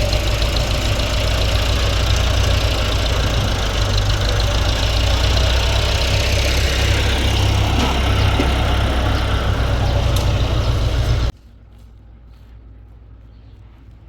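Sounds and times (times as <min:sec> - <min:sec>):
heavy machinery engine droning: 0:00.0 - 0:11.3.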